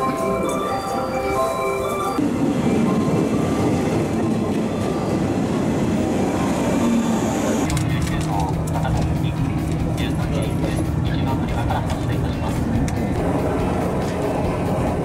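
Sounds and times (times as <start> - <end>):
background music: 0.0 - 15.0
train running on rails: 0.0 - 15.0.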